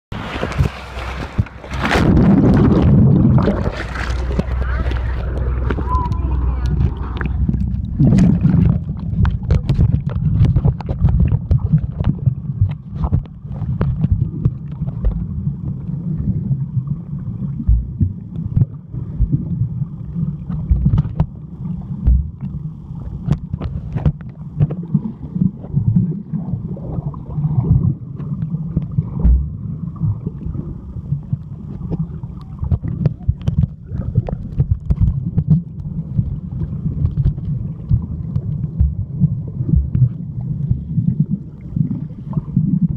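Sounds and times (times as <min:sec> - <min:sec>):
deep underwater rumble: 0:00.1 - 0:42.9.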